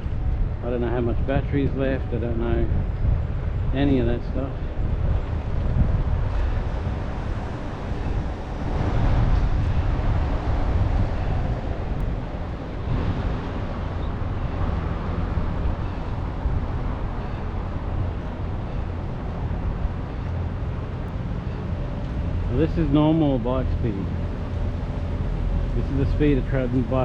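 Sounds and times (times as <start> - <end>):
low rumble from riding: 0.0 - 27.0
wind rushing over microphone: 0.0 - 27.0.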